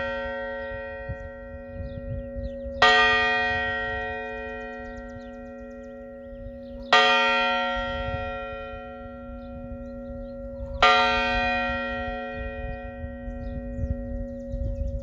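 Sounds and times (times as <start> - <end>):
church bell tolling: 0.0 - 15.0
low bell hum tone: 0.0 - 15.0.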